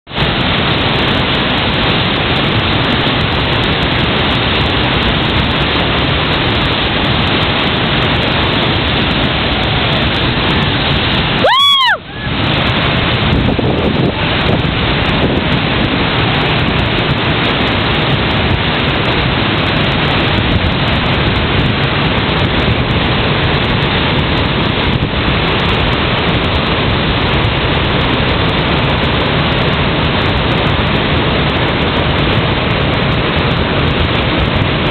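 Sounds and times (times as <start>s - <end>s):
river rapid rushing: 0.1s - 34.9s.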